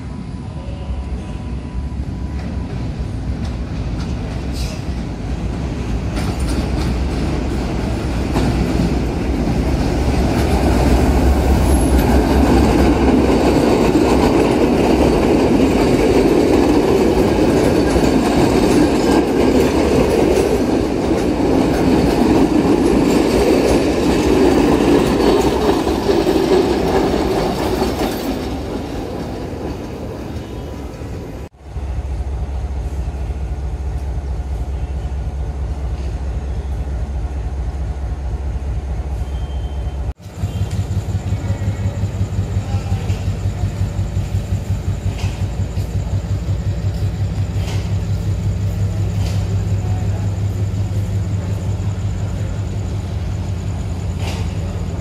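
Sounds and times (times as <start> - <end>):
locomotive engine humming: 0.0 - 55.0
train wheels rumbling and clattering: 1.6 - 55.0.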